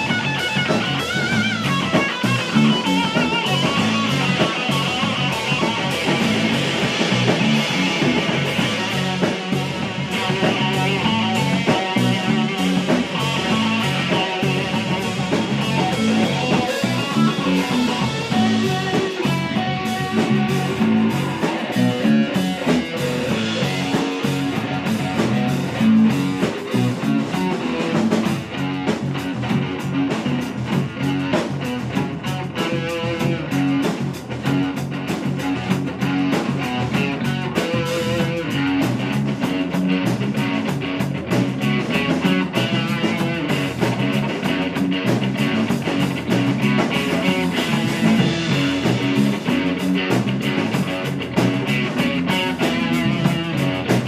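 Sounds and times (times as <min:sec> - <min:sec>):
instrumental rock music with guitar: 0:00.0 - 0:54.0.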